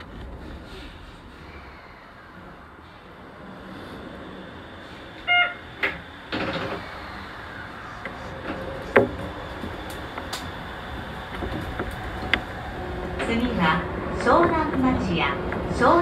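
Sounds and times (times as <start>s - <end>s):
steady background hum: 0.0s - 16.0s
train doors sliding shut: 0.0s - 16.0s.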